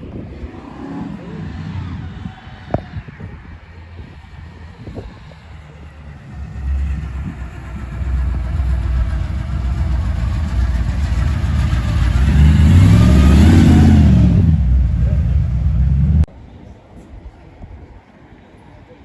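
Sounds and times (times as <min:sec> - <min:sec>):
car engine revving: 0:00.2 - 0:16.3.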